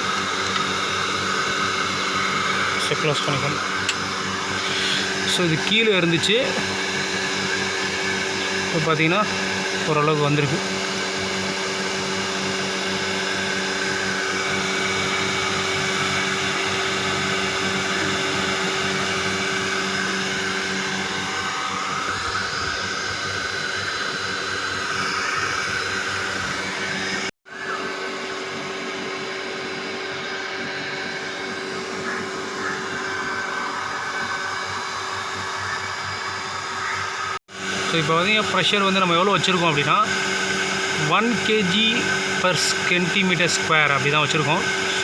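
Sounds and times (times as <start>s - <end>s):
electric pump motor humming: 0.0s - 45.0s.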